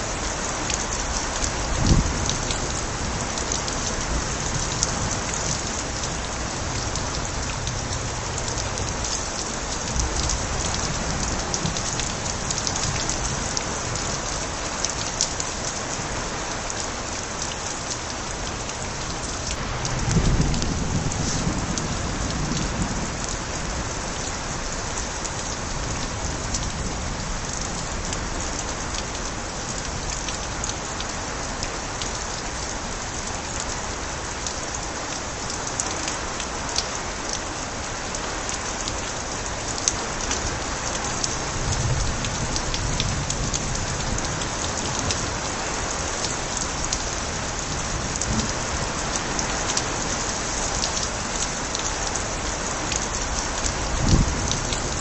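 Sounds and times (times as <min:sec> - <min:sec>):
steady rain: 0:00.0 - 0:55.0
water spilling from gutters: 0:00.0 - 0:55.0.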